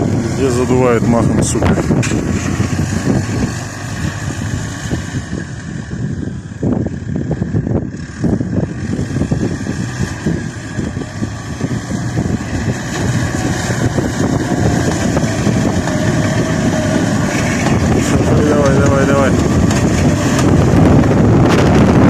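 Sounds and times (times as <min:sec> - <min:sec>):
tractor engine rumbling: 0:00.0 - 0:22.0
wind buffeting microphone: 0:00.0 - 0:22.0.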